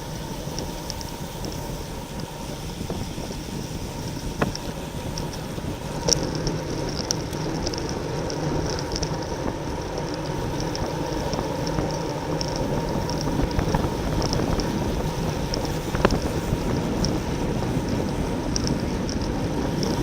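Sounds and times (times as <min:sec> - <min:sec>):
wind rushing over microphone: 0:00.0 - 0:20.0
light ticks: 0:00.2 - 0:02.3, 0:04.0 - 0:20.0.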